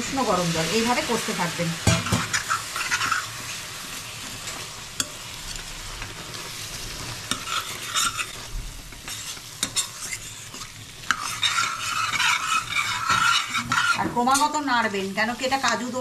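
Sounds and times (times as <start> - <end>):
paste and potatoes sizzling: 0.0 - 16.0
spatula scraping a pan: 0.0 - 16.0.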